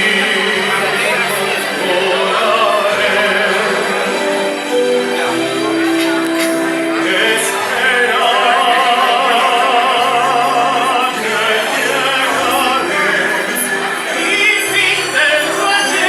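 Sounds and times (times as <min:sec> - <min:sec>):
person singing with vibrato: 0:00.0 - 0:16.0
song accompaniment with bass: 0:00.0 - 0:16.0.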